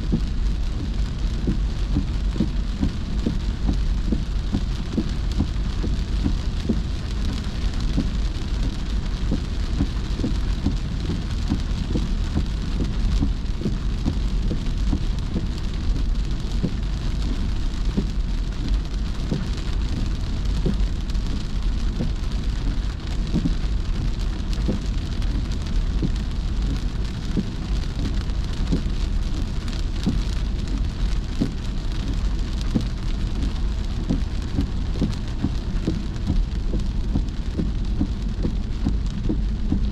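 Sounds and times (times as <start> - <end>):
heavy rain on a car: 0.0 - 39.9
low rumble of driving car: 0.0 - 39.9.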